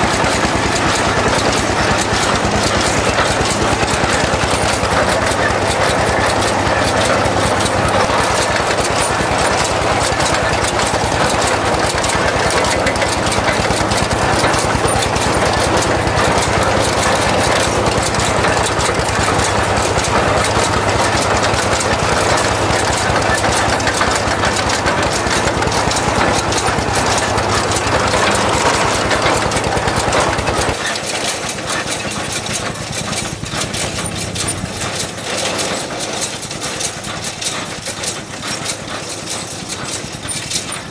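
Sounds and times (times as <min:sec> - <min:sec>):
diesel tractor engine knocking: 0:00.0 - 0:40.9
hay wagon pickup clatter: 0:00.0 - 0:40.9.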